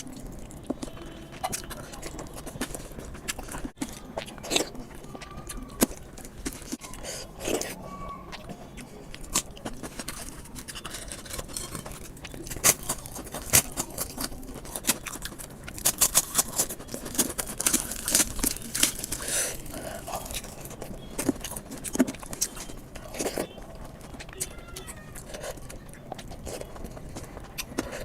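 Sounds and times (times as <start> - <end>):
eating sounds: 0.0 - 28.0.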